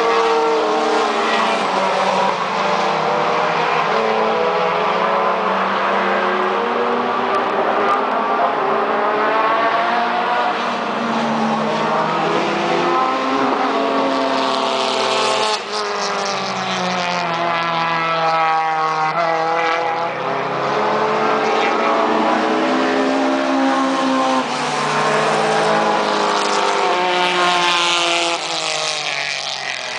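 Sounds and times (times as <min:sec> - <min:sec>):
race car engines accelerating: 0:00.0 - 0:29.9.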